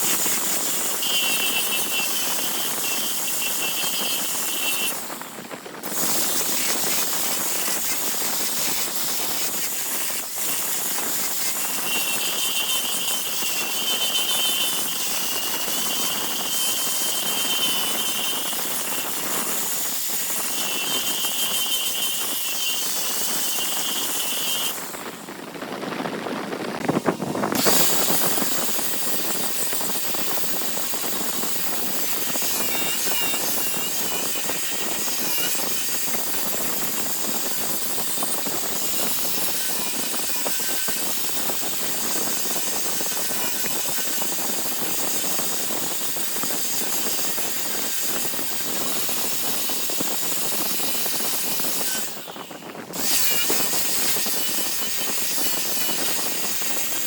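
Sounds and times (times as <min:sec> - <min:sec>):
wood lathe turning wood: 0:00.0 - 0:25.3, 0:26.4 - 0:57.0.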